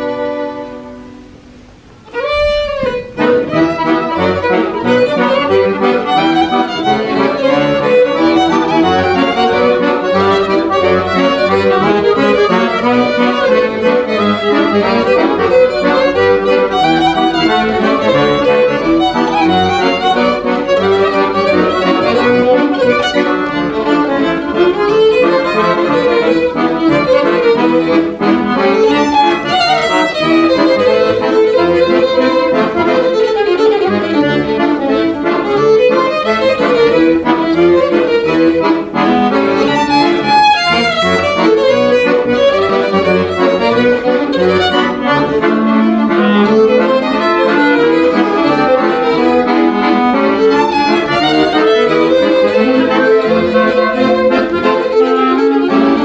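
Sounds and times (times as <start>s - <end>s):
accordion: 0.0s - 56.0s
clarinet: 0.0s - 56.0s
violins: 0.0s - 56.0s
cello: 2.0s - 56.0s.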